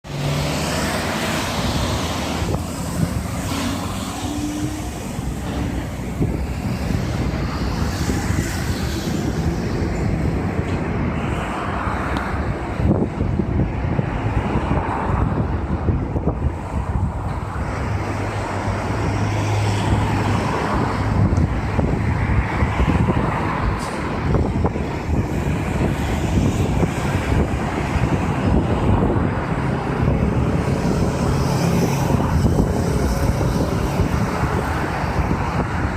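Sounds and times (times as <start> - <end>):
road traffic passing: 0.0 - 35.9
wind buffeting microphone: 0.1 - 35.9.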